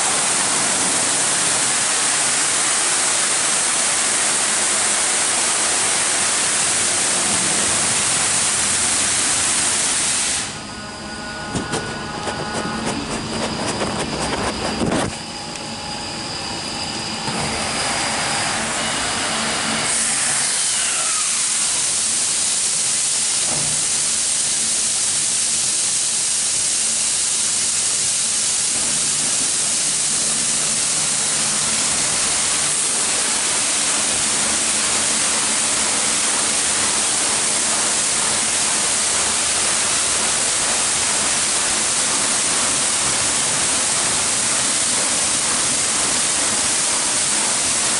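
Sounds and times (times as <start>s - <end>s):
car wash water spray hiss: 0.0s - 10.7s, 19.9s - 47.9s
car wash machinery rumble: 0.0s - 47.9s.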